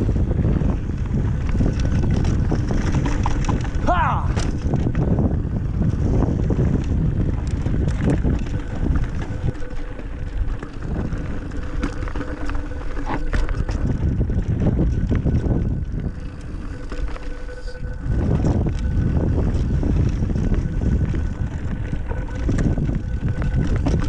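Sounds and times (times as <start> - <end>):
bike clicks and rattles: 0.0 - 24.0
tyres rolling over dirt: 0.0 - 24.0
wind buffeting microphone: 0.0 - 24.0.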